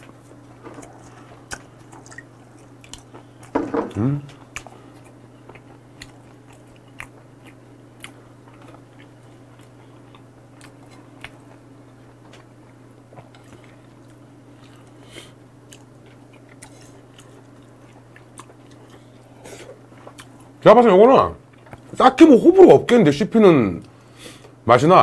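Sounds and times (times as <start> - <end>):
person chewing food: 0.0 - 20.6, 21.4 - 22.0
steady low hum: 0.0 - 25.0.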